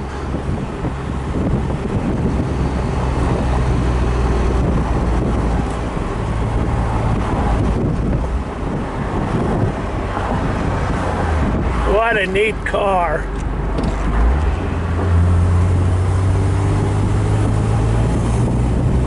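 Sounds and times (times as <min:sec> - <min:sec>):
car engine running: 0:00.0 - 0:19.0
wind rushing over microphone: 0:00.0 - 0:19.0.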